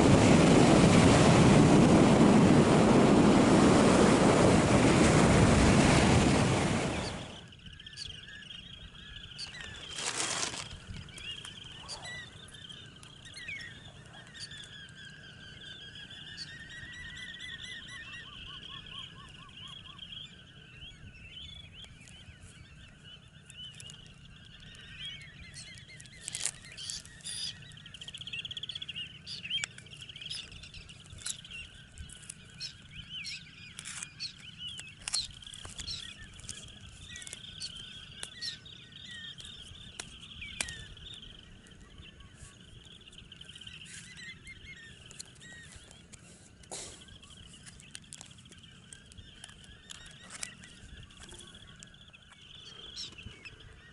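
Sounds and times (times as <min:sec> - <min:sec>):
shorebirds chattering and trilling: 0:00.0 - 0:53.9.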